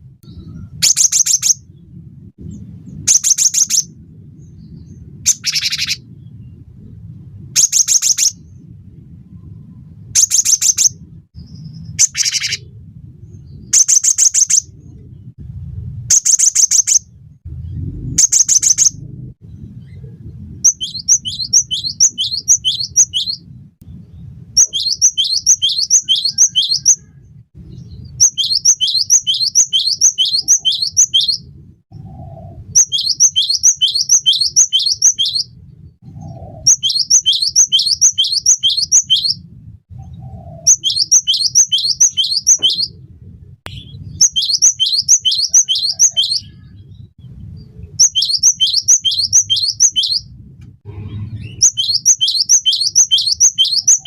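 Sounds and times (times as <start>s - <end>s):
faint low hum: 0.0s - 45.4s.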